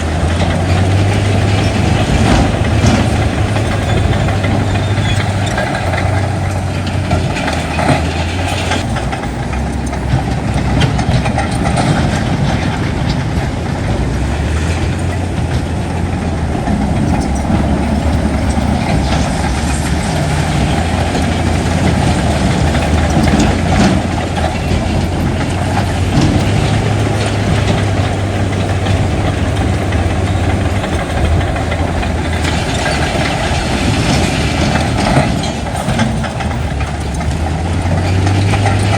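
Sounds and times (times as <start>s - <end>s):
heavy diesel engine droning: 0.0s - 38.9s
knocks and clanks: 0.0s - 38.9s.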